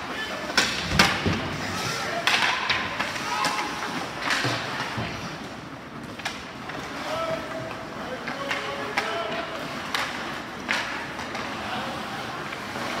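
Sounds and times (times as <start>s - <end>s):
skates scraping ice: 0.0s - 13.0s
knocks against rink boards: 0.4s - 5.3s, 6.0s - 11.7s.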